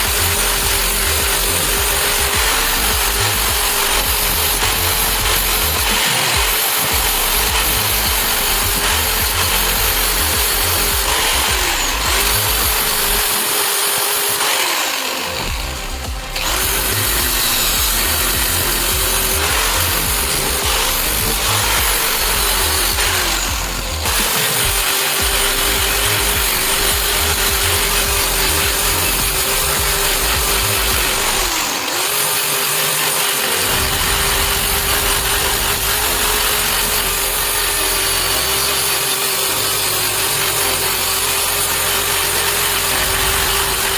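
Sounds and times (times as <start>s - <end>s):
electric power tool motor running: 0.0s - 43.9s.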